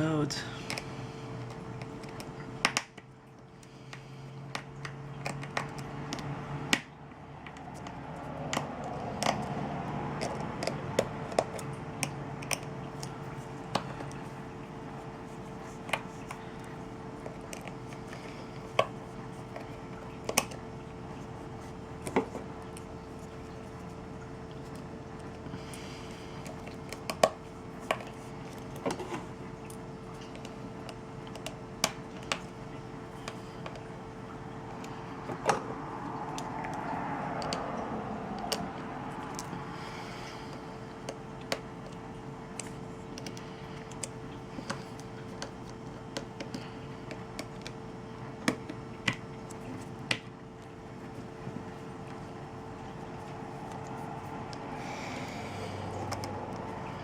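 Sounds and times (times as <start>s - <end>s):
background hum: 0.0s - 57.0s.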